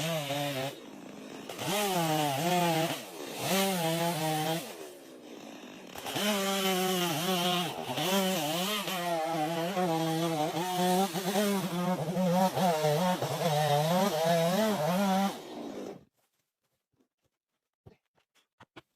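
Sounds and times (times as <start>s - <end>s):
chainsaw cutting log: 0.0s - 16.1s.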